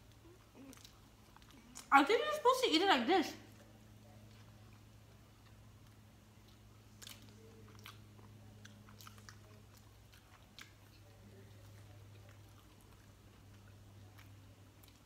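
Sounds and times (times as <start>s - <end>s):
chewing and biting: 0.0s - 1.9s, 3.5s - 15.0s
low steady hum: 0.0s - 15.0s.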